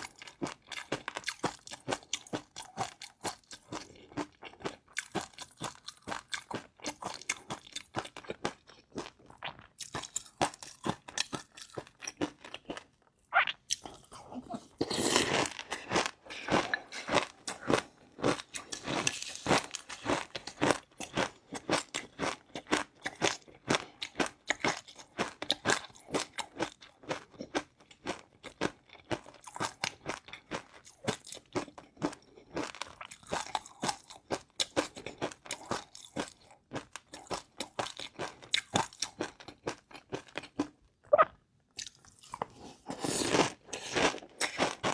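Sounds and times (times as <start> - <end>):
chewing crunchy food: 0.0 - 44.9.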